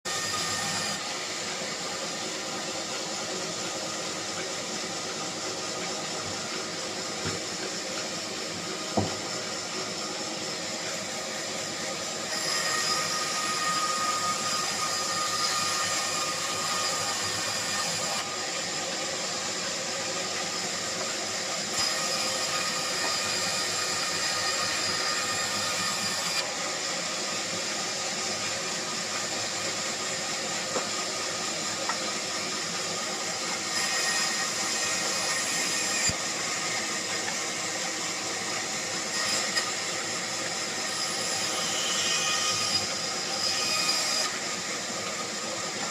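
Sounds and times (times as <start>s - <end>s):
bandsaw cutting wood: 0.0s - 45.9s.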